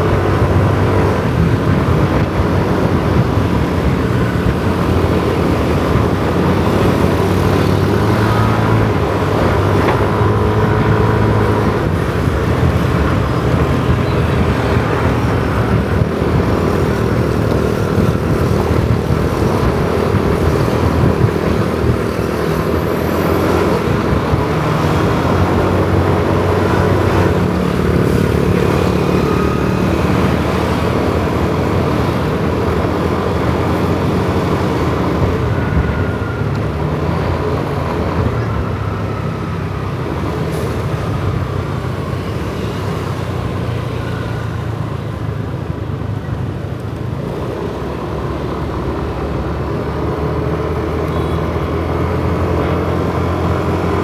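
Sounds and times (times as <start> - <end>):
hum of other motorbikes: 0.0 - 54.0
wind and road rush: 0.0 - 54.0.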